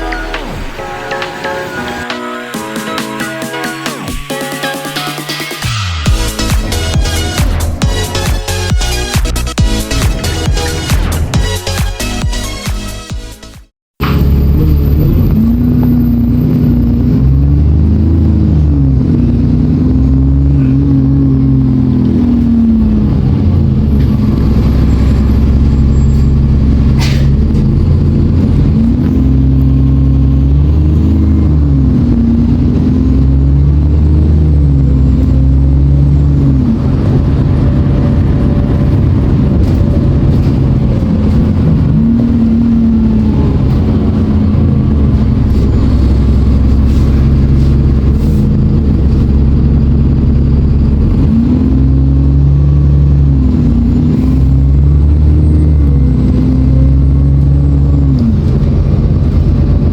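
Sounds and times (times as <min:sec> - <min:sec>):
bus diesel engine revving: 0:00.0 - 0:59.9.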